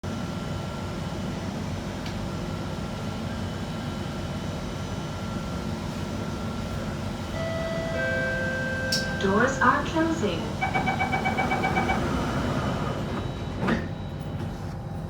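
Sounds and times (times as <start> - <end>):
train low rumble and hum: 0.0 - 15.0.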